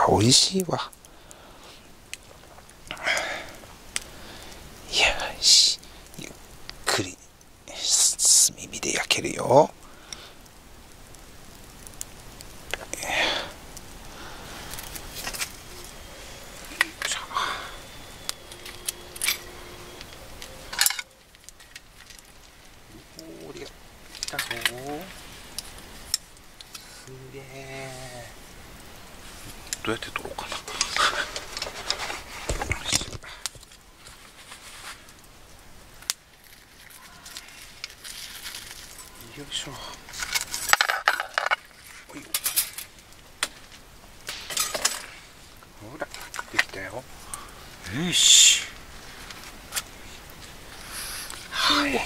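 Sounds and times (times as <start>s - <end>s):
charcoal fire hissing: 0.0s - 52.0s
coals crackling and popping: 0.0s - 52.0s.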